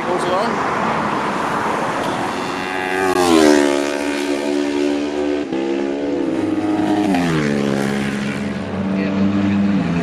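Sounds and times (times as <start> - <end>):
racing motorcycles passing: 0.0 - 10.0.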